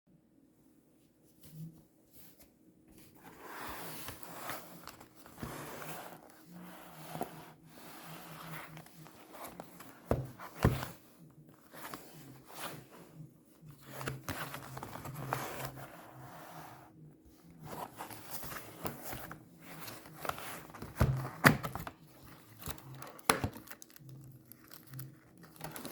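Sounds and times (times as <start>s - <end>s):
cards rustling: 3.1s - 13.0s, 13.6s - 16.3s, 17.5s - 25.9s.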